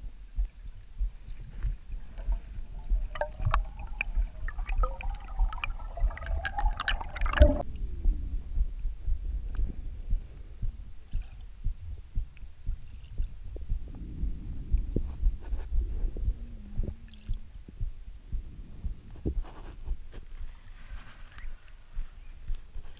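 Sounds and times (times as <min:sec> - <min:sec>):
underwater rumble: 0:00.0 - 0:19.6.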